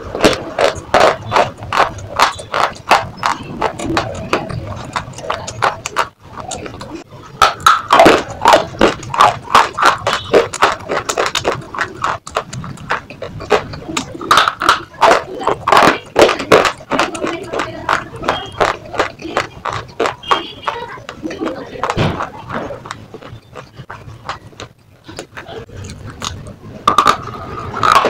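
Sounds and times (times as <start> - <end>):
slate being chewed crunching: 0.0 - 28.0.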